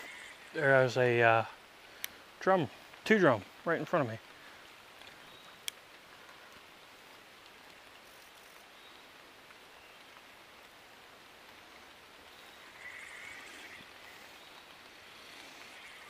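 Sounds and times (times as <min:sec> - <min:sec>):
light rain on creek water: 0:00.0 - 0:16.0.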